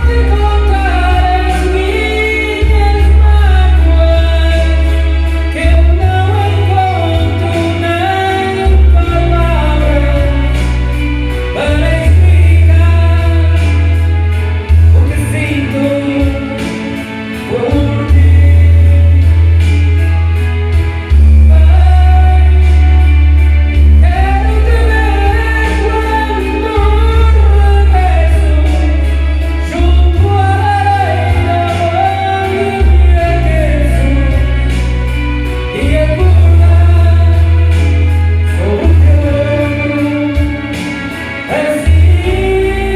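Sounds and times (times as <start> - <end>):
backing track with heavy bass: 0.0 - 42.9
person singing karaoke: 0.0 - 42.9.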